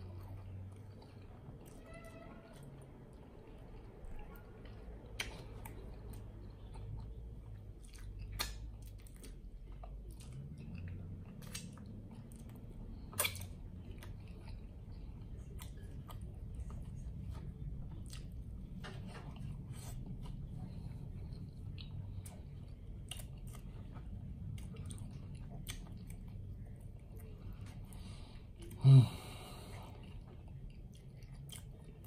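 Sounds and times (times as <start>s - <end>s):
wet chewing with mouth clicks: 0.0s - 28.8s, 29.5s - 32.0s.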